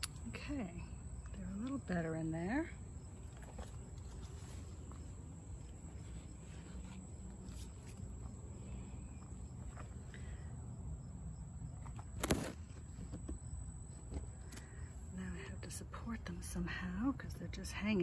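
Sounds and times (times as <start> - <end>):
faint insect chirping: 0.0 - 18.0.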